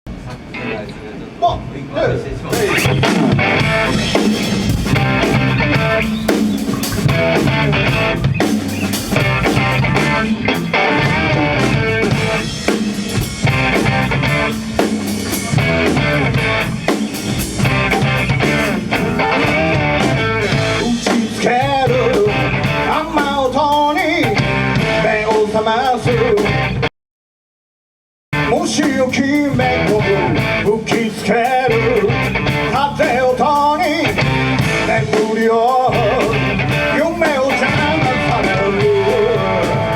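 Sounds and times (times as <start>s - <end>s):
electric guitar: 0.2s - 1.4s, 2.5s - 26.9s, 28.4s - 39.9s
drum kit: 2.4s - 26.9s, 28.4s - 39.9s.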